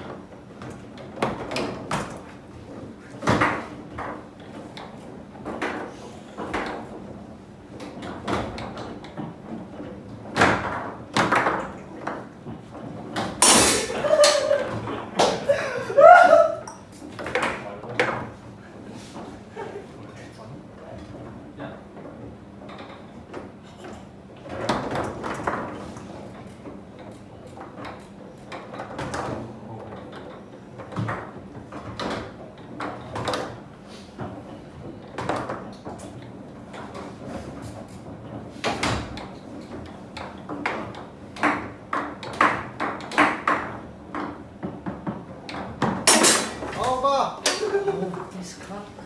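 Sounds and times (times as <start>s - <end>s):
foosball knocks and clacks: 0.0s - 15.5s, 16.8s - 19.4s, 21.0s - 48.3s
foosball rods sliding and rattling: 0.0s - 15.5s, 16.7s - 49.0s.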